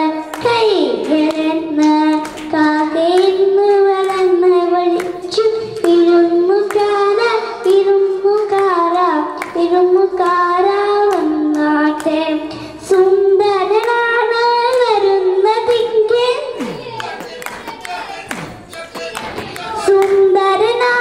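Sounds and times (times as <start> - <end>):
girl singing into a microphone: 0.0 - 17.9, 19.4 - 21.0.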